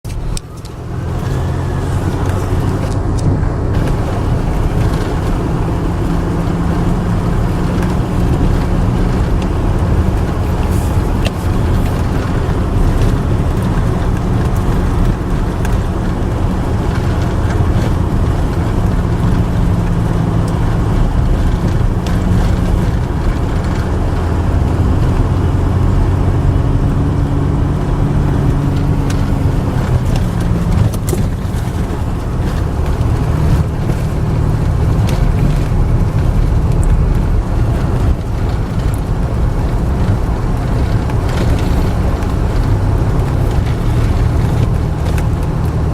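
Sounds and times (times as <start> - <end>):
car engine hum: 0.0 - 45.9
road noise: 0.0 - 45.9.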